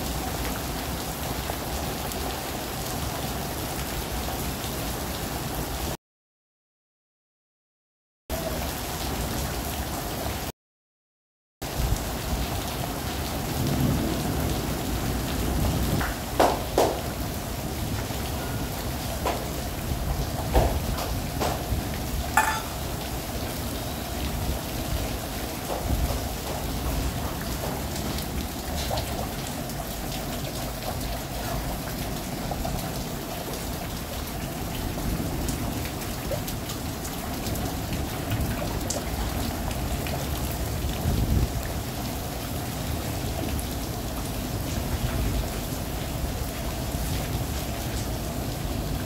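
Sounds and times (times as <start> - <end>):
rain falling on rooftops: 0.0 - 6.0, 8.3 - 10.5, 11.6 - 49.0.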